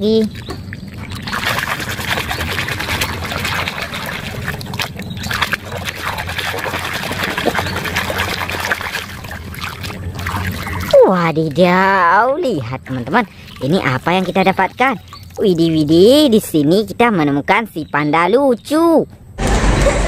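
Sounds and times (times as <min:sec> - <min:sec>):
small water splashes: 0:00.0 - 0:16.7
water sloshing in a tub: 0:00.0 - 0:17.7.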